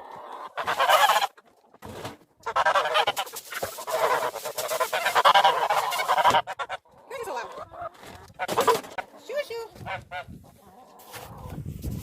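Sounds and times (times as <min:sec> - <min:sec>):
geese honking: 0:00.0 - 0:01.4, 0:02.4 - 0:11.0.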